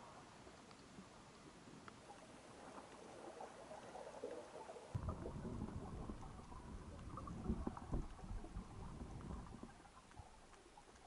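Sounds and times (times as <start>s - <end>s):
faint underwater crackle: 0.0s - 11.0s
water rumbling against camera: 2.0s - 11.0s.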